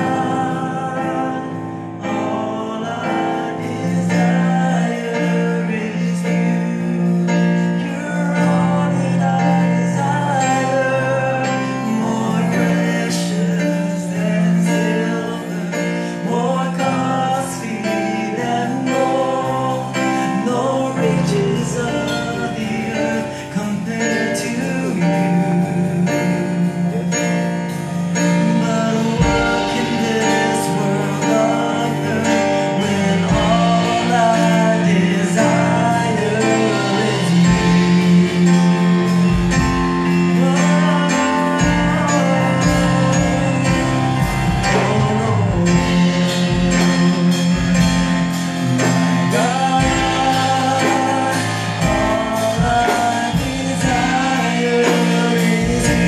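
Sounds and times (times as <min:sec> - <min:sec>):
band with guitar and bass: 0:00.0 - 0:56.0
person singing: 0:00.0 - 0:56.0.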